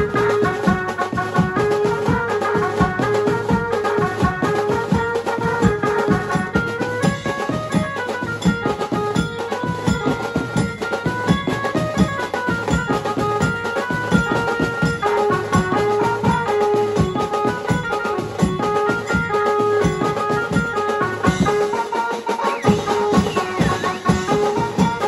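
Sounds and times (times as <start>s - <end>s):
bass drums and snare drums: 0.0s - 25.0s
held melody notes: 0.0s - 25.0s.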